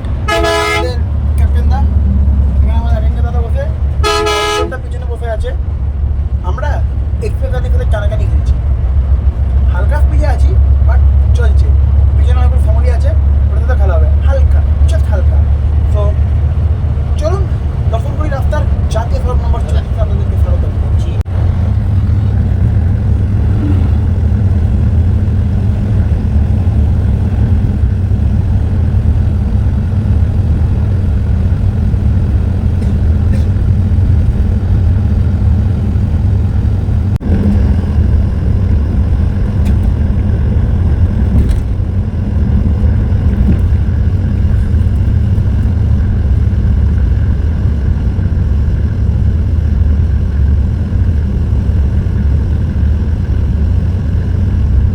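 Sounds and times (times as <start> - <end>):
coach engine and road rumble: 0.0 - 54.9.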